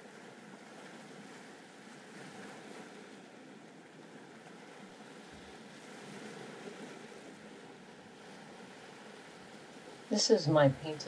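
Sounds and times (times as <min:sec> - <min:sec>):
sea waves: 0:00.0 - 0:11.0
wind: 0:00.0 - 0:11.0.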